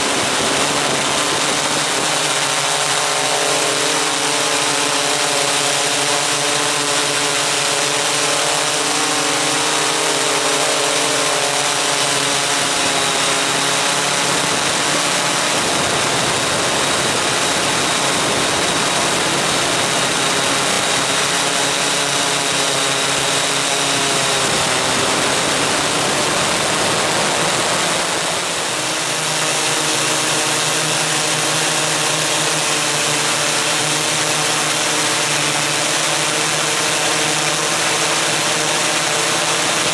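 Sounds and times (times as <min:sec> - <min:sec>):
multicopter propellers whirring: 0:00.0 - 0:39.9.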